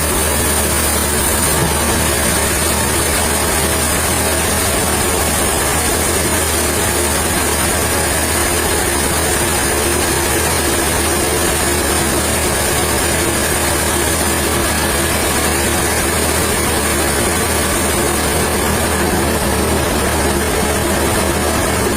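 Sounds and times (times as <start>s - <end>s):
sawmill machinery drone: 0.0s - 21.9s.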